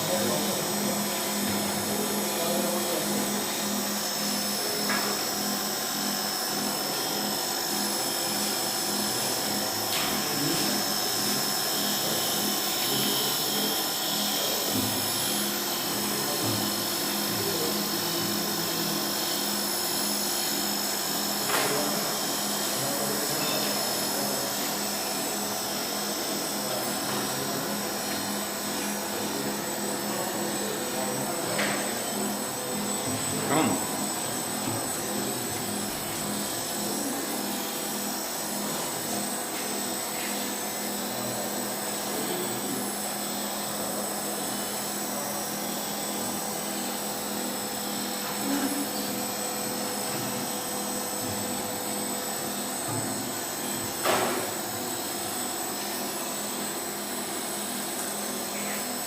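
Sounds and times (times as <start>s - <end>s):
machine motor whine: 0.0s - 59.0s.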